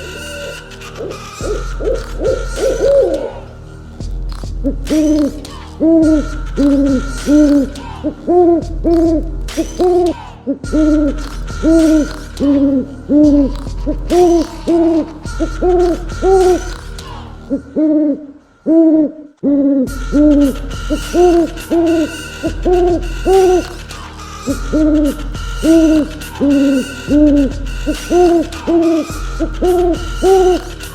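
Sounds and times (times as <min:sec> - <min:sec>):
owl hooting: 0:00.0 - 0:03.6, 0:04.3 - 0:30.9.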